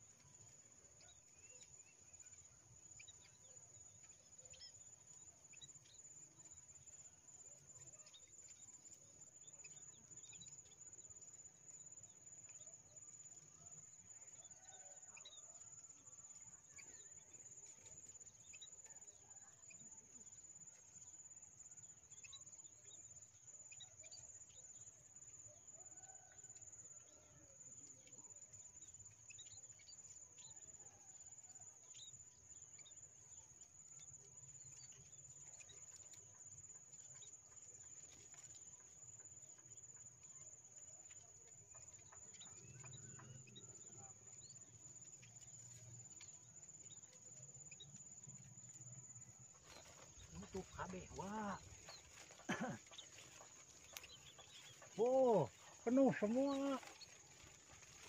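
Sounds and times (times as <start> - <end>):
faint bird chirps: 0.0 - 58.0.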